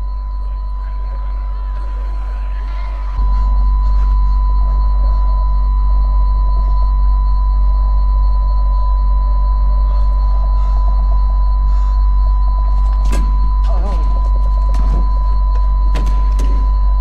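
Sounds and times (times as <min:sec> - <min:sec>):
high-pitched ringing tone: 0:00.0 - 0:17.0.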